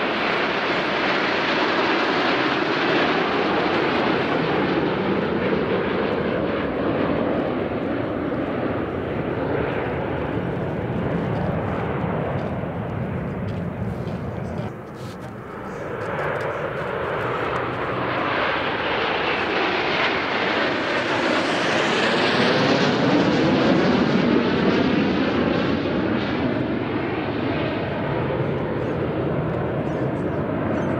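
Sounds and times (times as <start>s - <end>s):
jet engines flying overhead: 0.0s - 30.9s.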